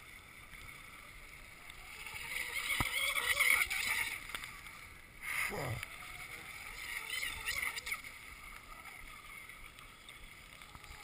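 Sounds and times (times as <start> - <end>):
model boat motor whine: 0.0 - 11.0.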